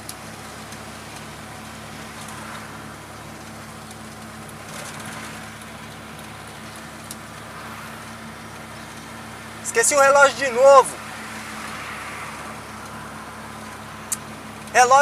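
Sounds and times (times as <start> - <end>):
road and traffic noise: 0.0 - 15.0.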